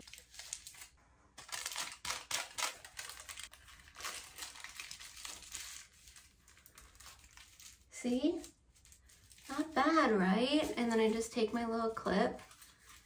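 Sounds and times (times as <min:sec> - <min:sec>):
foil crinkling: 0:00.0 - 0:13.0.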